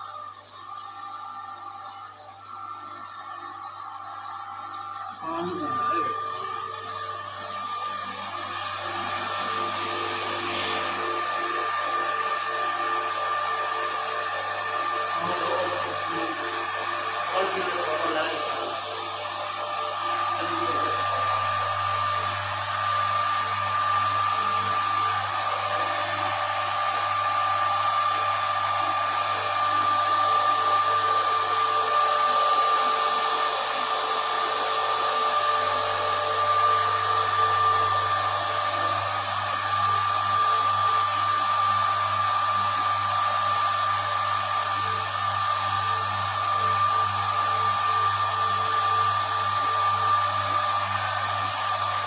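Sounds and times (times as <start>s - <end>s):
high whine: 0.0s - 52.0s
pump motor rushing: 0.0s - 52.0s.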